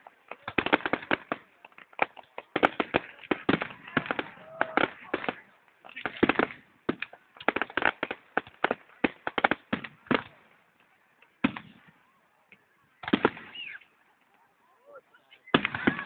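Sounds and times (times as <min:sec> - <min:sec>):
fireworks bangs and cracks: 0:00.0 - 0:13.8, 0:15.4 - 0:16.0.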